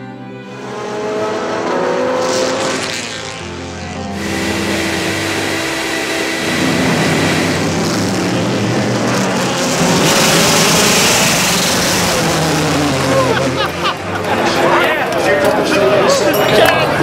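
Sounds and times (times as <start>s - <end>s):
race car engine running hard: 0.4s - 17.0s.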